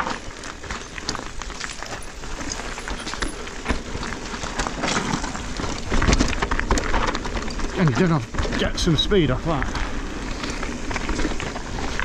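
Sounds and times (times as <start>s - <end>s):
bike tyres rolling over slate: 0.0s - 12.0s.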